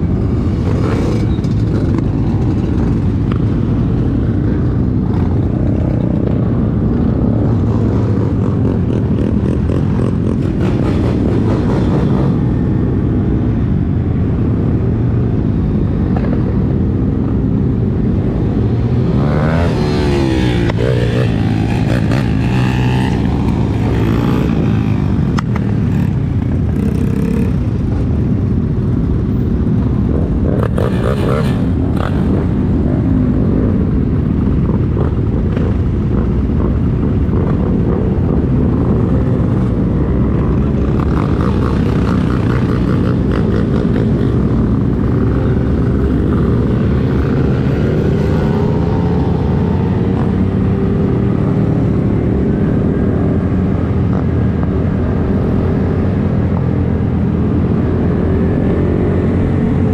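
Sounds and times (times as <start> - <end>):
wind rumble on microphone: 0.0 - 59.9
motorcycle engine accelerating: 0.2 - 13.2, 16.1 - 59.9.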